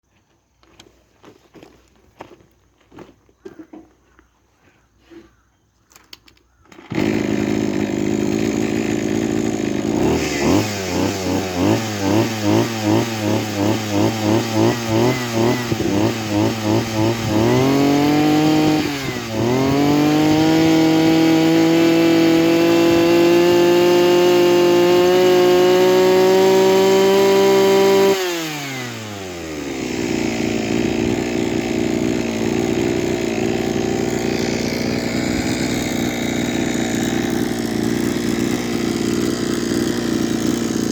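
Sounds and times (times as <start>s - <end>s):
brush cutter engine running: 6.7s - 40.9s.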